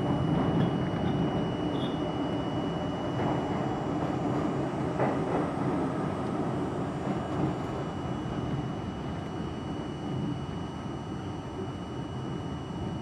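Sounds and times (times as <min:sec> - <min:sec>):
subway car wheels rumbling: 0:00.0 - 0:13.0.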